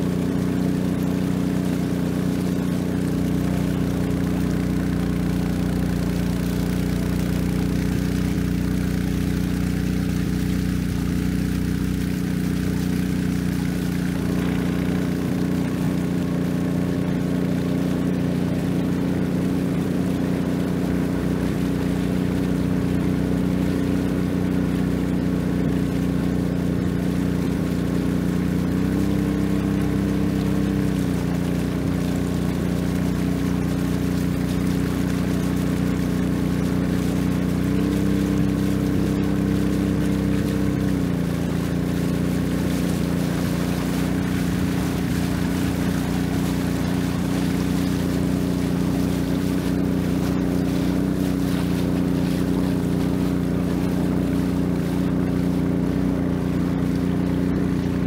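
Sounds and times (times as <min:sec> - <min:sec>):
boat engine running: 0:00.0 - 0:58.0
water rushing along hull: 0:00.0 - 0:58.0.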